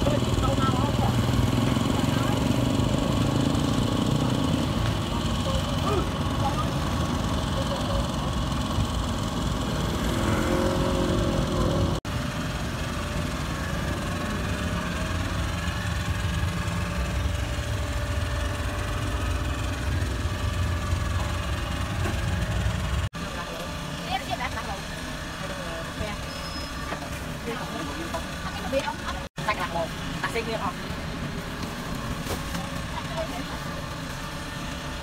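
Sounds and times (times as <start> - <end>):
motor engine idling: 0.0 - 35.0.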